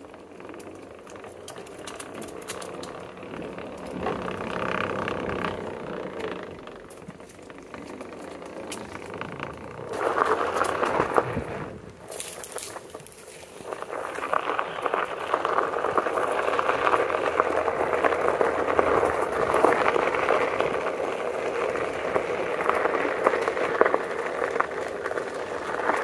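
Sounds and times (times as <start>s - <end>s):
tyre rolling over gravel: 0.0s - 26.0s.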